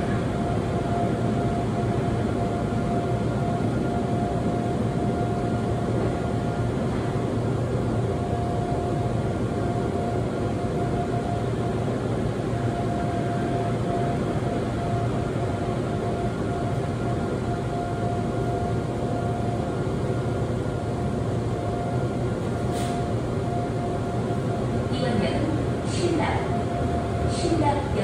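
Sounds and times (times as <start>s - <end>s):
train whine: 0.0s - 28.0s.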